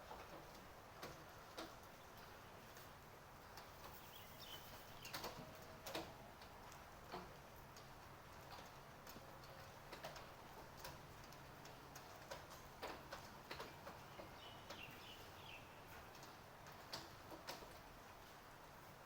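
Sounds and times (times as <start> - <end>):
faint steady rain hiss: 0.0 - 19.0
raindrops tapping hard surfaces: 0.0 - 19.0.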